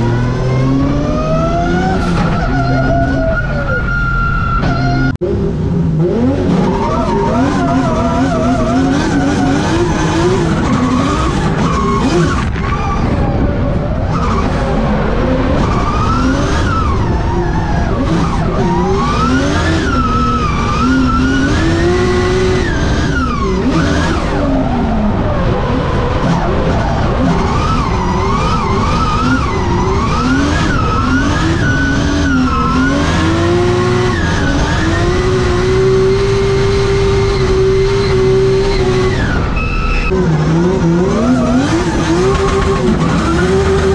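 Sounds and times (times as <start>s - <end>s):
car engine revving: 0.0s - 43.9s
tyres skidding: 0.0s - 43.9s.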